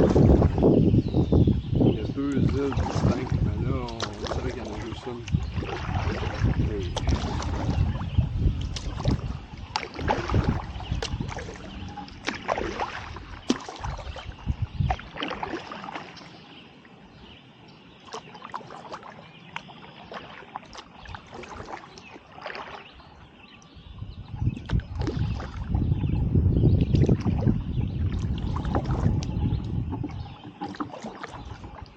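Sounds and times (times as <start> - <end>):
paddle splashing in water: 0.0 - 0.9, 2.0 - 31.9.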